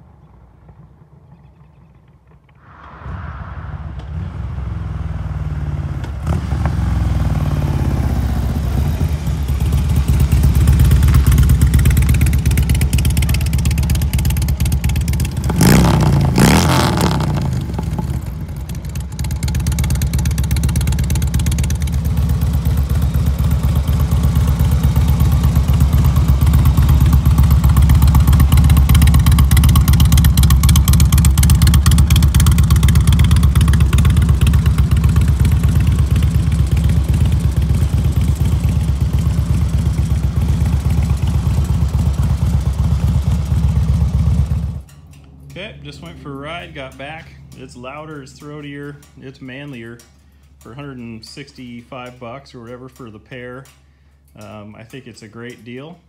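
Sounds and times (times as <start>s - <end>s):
motorcycle engine running: 4.2s - 53.6s.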